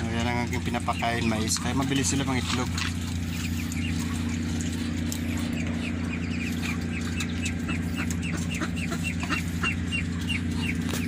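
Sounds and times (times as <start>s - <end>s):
ducklings peeping: 0.0s - 11.0s
low hum: 0.0s - 11.0s.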